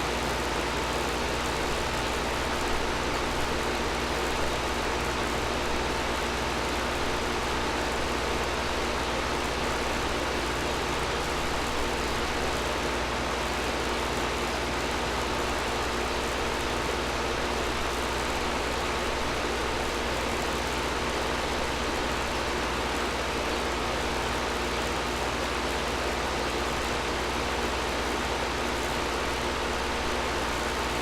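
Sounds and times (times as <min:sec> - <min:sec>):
air conditioner running: 0:00.0 - 0:31.0.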